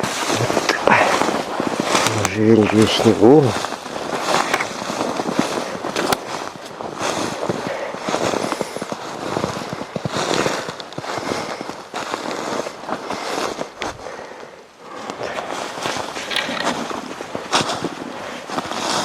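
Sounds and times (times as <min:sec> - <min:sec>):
footsteps crunching through snow: 0:00.0 - 0:19.0.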